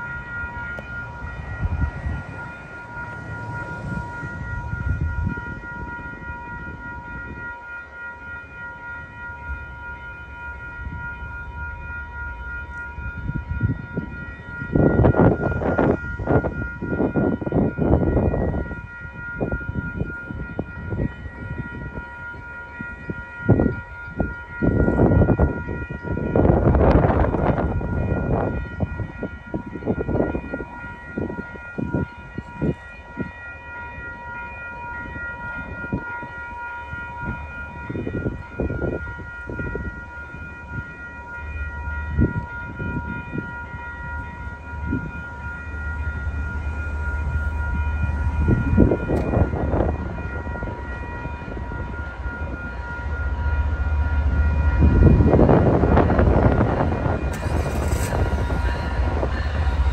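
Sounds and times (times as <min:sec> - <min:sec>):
wind noise on microphone: 0:00.0 - 0:07.6, 0:12.7 - 0:59.9
diesel locomotive rumble: 0:00.0 - 0:59.9
railroad warning bell ringing: 0:00.0 - 0:59.9.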